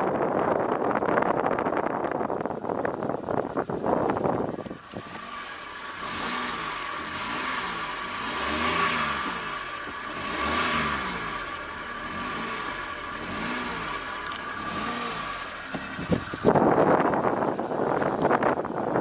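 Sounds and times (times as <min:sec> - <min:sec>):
car engine revving: 0:02.9 - 0:18.6.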